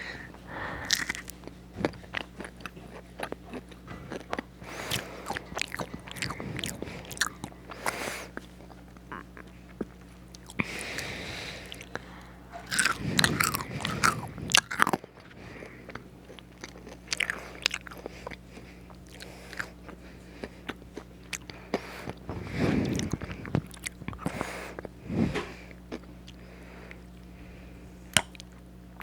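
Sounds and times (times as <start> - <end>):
chewing crunchy fries: 0.0 - 29.0.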